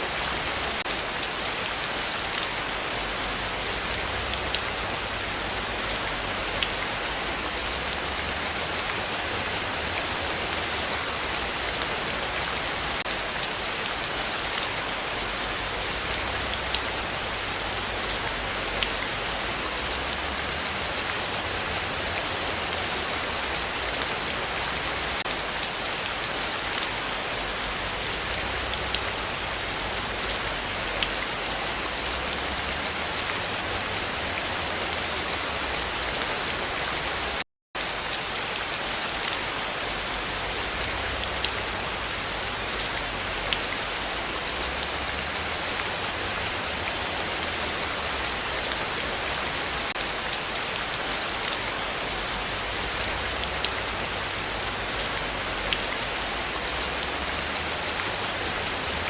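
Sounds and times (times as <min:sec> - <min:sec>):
heavy rain falling: 0:00.0 - 0:59.0
raindrops ticking on surfaces: 0:00.0 - 0:59.0.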